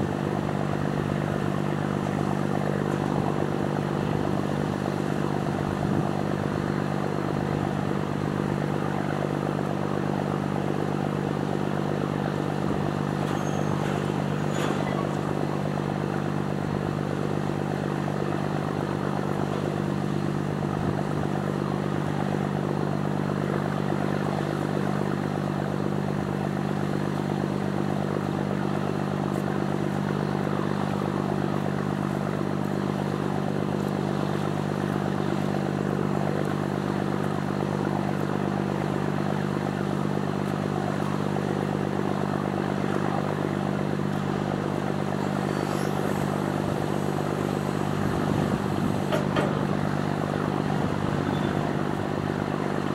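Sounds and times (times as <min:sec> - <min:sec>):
ship engine droning: 0:00.0 - 0:52.9.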